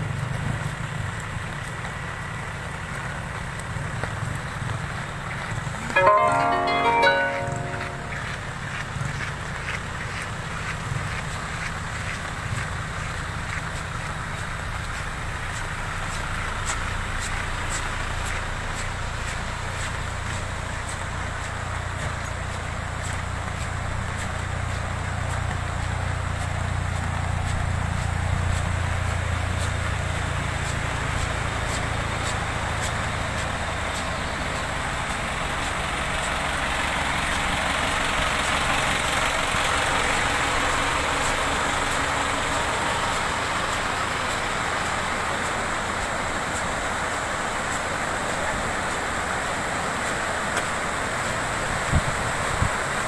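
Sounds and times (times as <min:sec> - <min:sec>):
car and truck engines idling: 0:00.0 - 0:53.0
rushing floodwater: 0:09.3 - 0:53.0.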